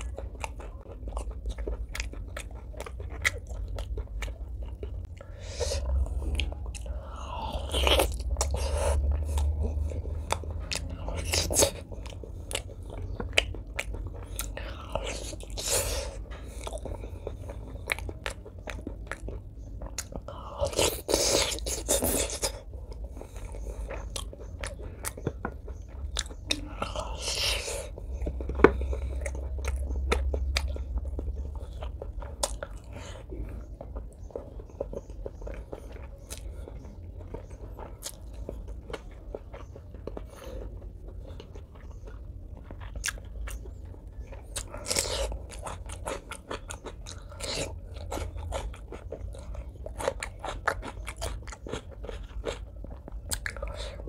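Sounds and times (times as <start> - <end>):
crunchy chewing: 0.0 - 54.0
wet chewing: 0.0 - 54.0.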